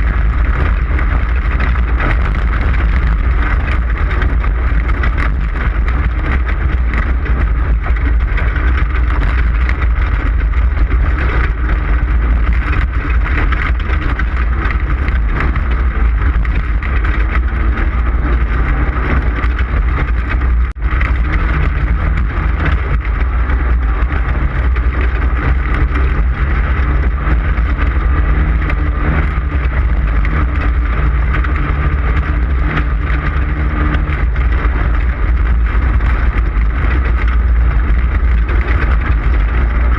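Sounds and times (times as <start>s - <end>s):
loud steady engine: 0.0s - 39.9s
rough road and wind noise: 0.0s - 39.9s.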